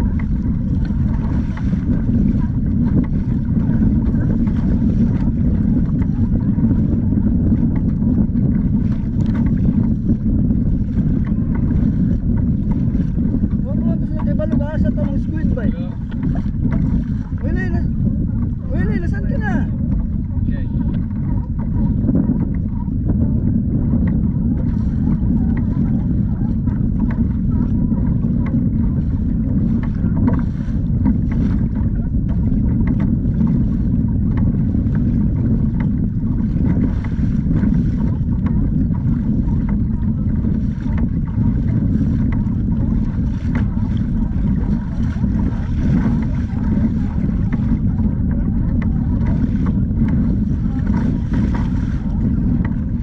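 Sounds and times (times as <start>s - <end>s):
water splashing against hull: 0.0s - 53.0s
wind buffeting microphone: 0.0s - 53.0s.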